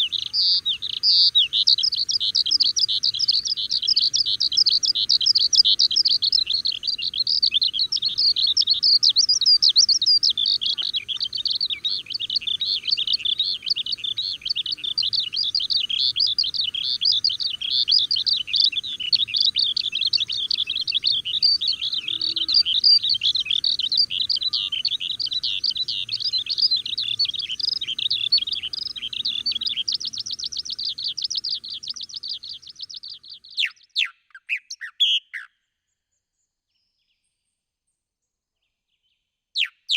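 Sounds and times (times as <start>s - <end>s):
songbirds chirping and singing: 0.0s - 35.6s, 39.0s - 39.9s.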